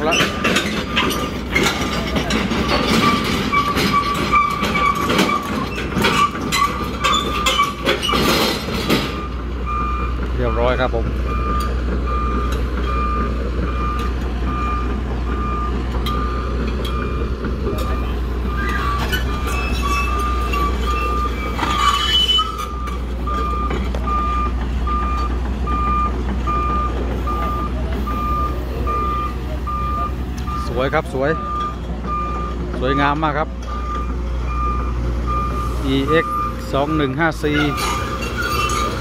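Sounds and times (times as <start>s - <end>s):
diesel engine drone: 0.0s - 39.0s
excavator travel alarm beeping: 0.0s - 39.0s.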